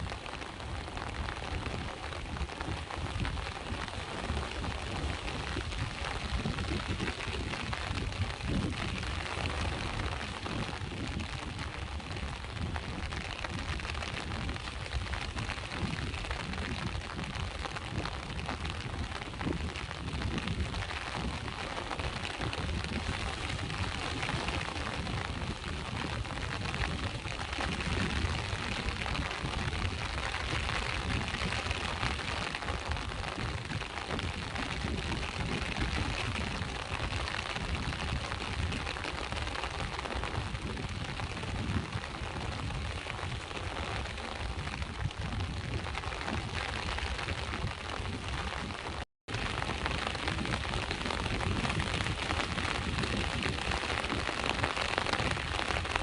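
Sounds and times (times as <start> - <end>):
rain: 0.0 - 56.0.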